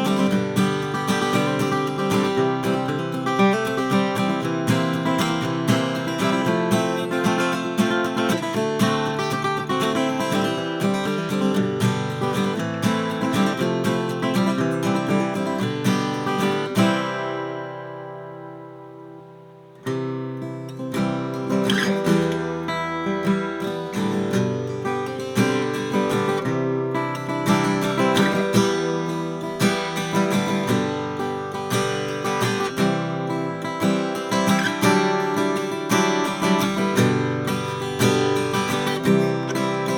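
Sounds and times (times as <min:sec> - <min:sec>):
acoustic guitar playing: 0:00.0 - 0:39.9.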